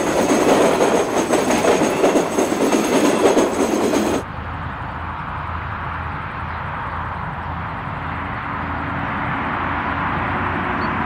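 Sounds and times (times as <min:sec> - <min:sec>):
distant freight train rumbling: 0:00.0 - 0:11.0.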